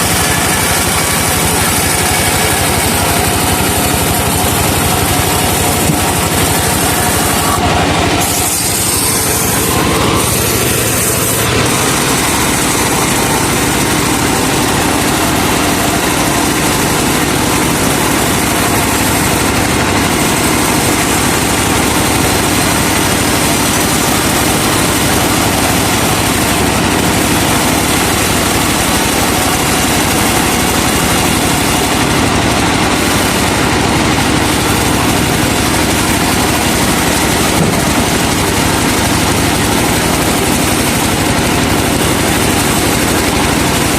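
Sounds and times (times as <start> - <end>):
sawmill running: 0.0 - 43.9.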